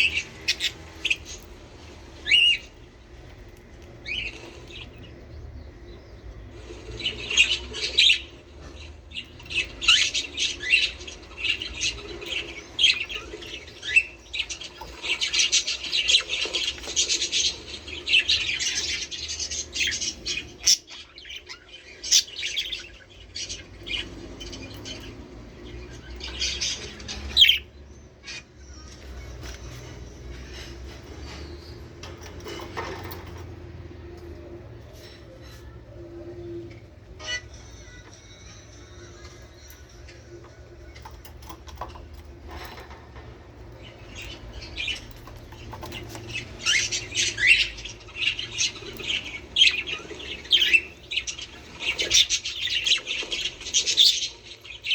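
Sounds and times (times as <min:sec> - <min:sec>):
budgerigars chattering and squawking: 0:00.0 - 0:35.6, 0:39.2 - 0:54.9.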